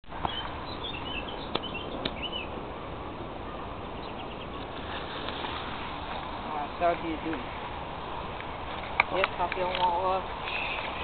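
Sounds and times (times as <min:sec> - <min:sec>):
birds chirping: 0:00.1 - 0:11.0
steady background hiss: 0:00.1 - 0:11.0.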